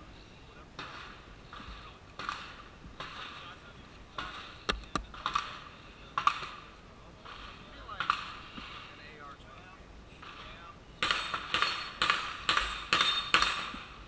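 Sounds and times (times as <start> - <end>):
sharp cracks: 0.8 - 9.0, 10.2 - 14.0.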